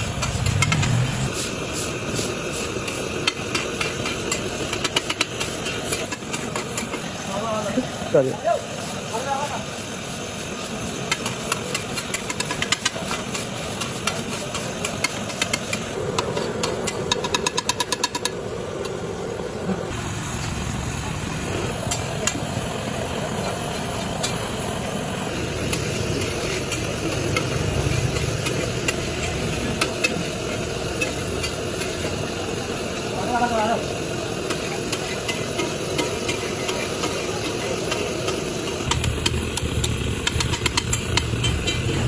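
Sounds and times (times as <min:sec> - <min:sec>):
liver sizzling on a griddle: 0:01.3 - 0:17.3, 0:19.9 - 0:42.0.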